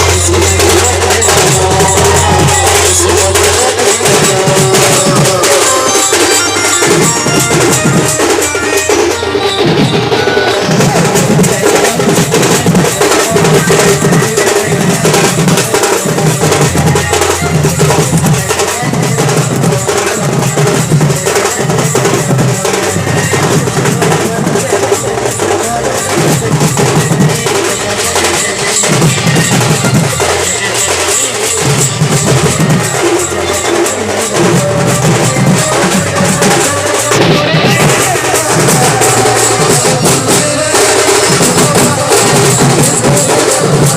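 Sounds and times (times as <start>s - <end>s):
band music: 0.0s - 43.9s
loud dense drumming: 0.0s - 43.9s.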